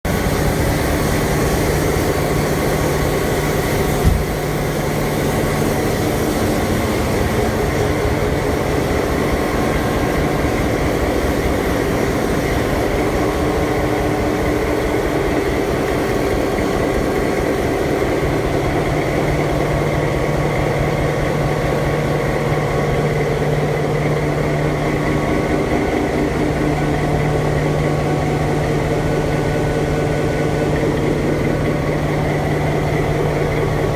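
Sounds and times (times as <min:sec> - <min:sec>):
diesel locomotive engine running: 0:00.0 - 0:33.9
short engine knock: 0:01.1 - 0:33.9.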